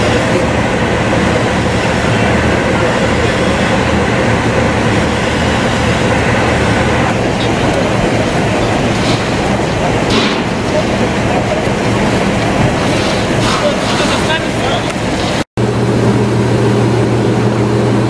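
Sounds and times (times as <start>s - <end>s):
large engine rumbling: 0.0s - 18.0s.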